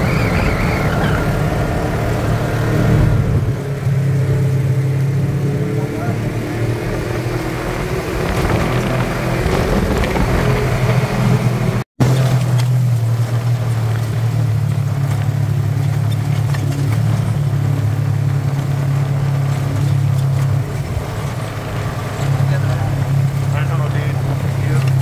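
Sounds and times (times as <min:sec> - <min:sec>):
utility vehicle engine drone: 0:00.0 - 0:25.0.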